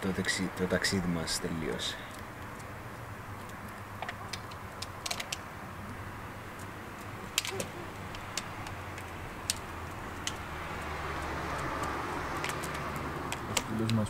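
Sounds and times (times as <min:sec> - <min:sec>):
traffic hum: 0:00.0 - 0:14.0
sharp clicks and taps: 0:02.1 - 0:06.0, 0:06.6 - 0:14.0.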